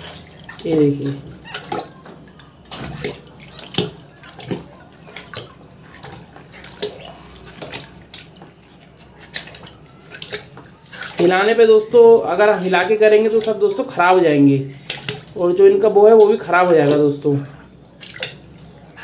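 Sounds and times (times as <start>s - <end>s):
water dripping: 0.0s - 19.0s
water sloshing in a plastic tub: 0.0s - 19.0s.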